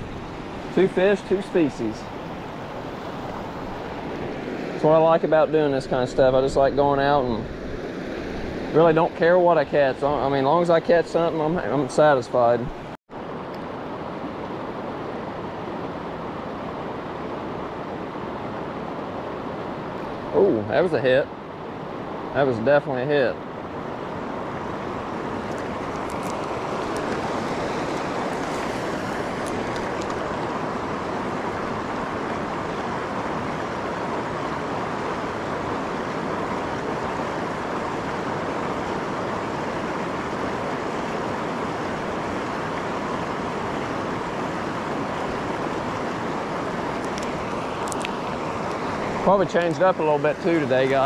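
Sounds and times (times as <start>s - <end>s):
river rapids roaring: 0.0s - 12.6s, 13.2s - 51.0s.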